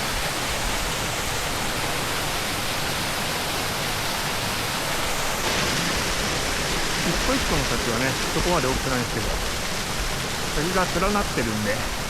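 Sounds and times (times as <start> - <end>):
stream rushing over waterfalls: 0.0 - 12.0.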